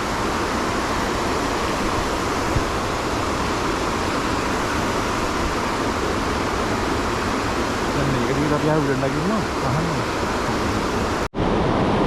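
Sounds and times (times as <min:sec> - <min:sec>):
rush of flowing water: 0:00.0 - 0:12.0.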